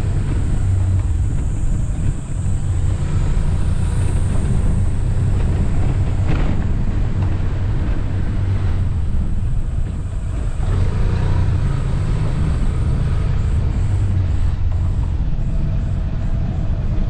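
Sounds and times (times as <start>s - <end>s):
motorcycle engine rumble: 0.0s - 17.0s
wind noise: 0.0s - 17.0s.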